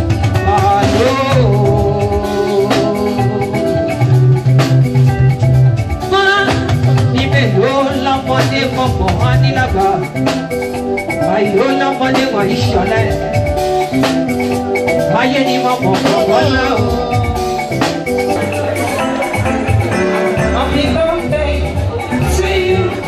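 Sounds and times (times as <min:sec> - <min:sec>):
upbeat dance music: 0:00.0 - 0:23.0.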